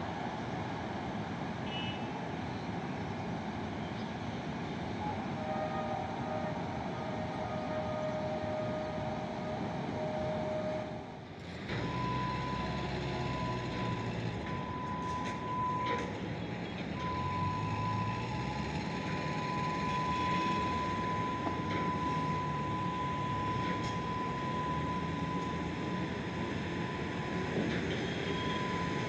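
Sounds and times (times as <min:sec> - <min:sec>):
distant traffic rumble: 0:00.0 - 0:29.0.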